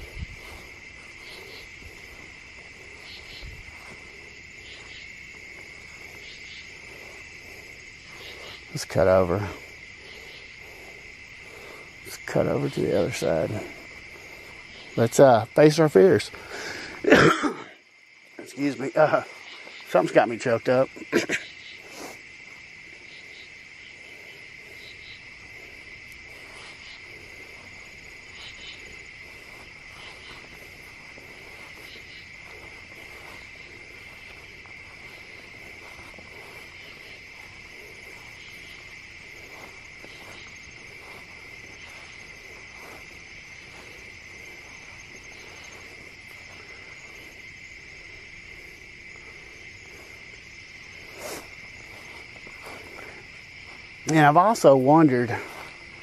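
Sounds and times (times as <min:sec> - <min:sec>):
footsteps rustling in grass: 0:00.0 - 0:17.0, 0:17.9 - 0:56.0
night insects chirring: 0:00.0 - 0:56.0.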